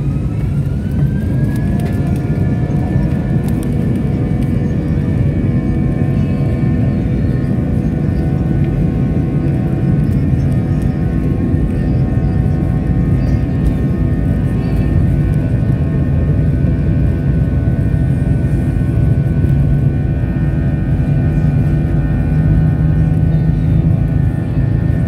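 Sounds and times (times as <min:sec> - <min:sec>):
jet engine whine: 0:00.0 - 0:25.0
jet engines roaring on takeoff: 0:00.0 - 0:25.0
low hum: 0:00.0 - 0:25.0.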